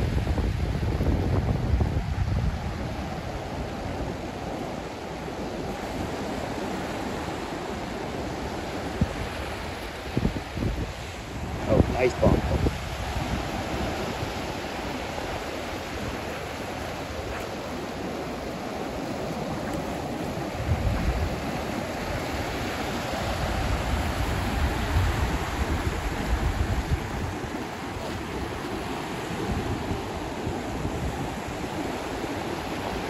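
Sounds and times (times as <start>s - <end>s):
ocean surf washing: 0.0s - 33.0s
wind on microphone: 0.0s - 33.0s.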